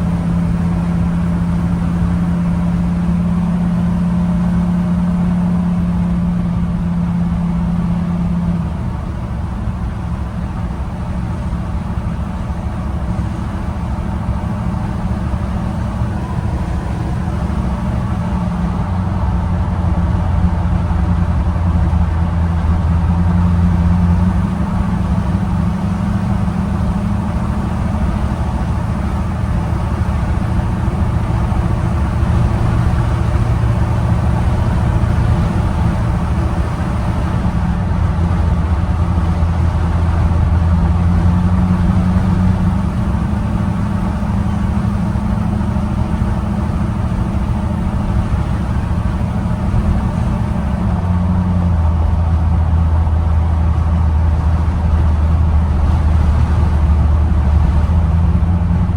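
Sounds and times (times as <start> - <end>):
pickup truck engine running: 0.0 - 58.9.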